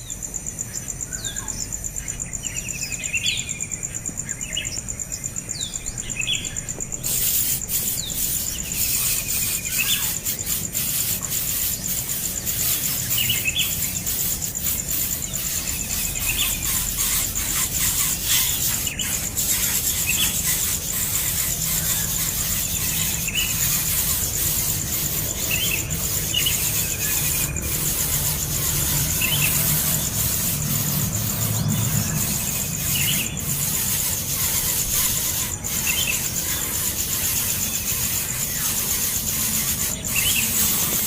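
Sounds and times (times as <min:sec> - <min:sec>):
high-pitched buzz: 0:07.0 - 0:41.0.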